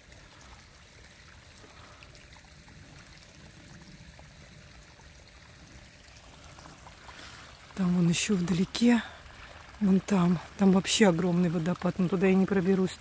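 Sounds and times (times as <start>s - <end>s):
stream running water: 0.0s - 13.0s.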